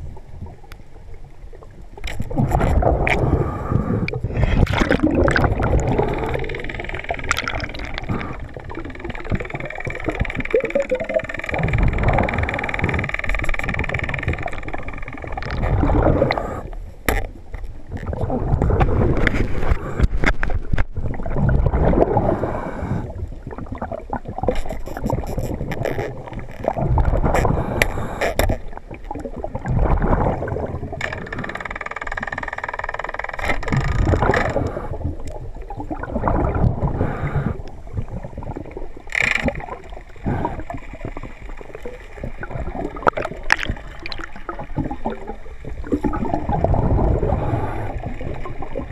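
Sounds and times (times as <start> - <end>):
water sloshing and gurgling: 0.0 - 48.9.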